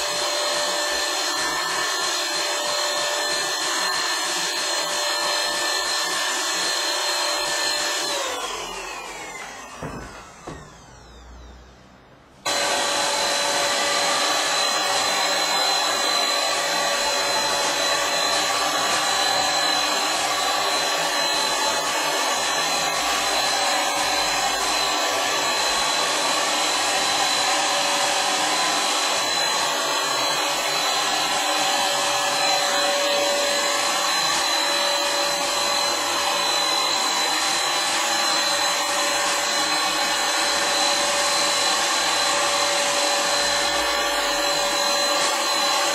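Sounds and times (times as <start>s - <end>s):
electric paint sprayer whining: 0.0s - 45.9s.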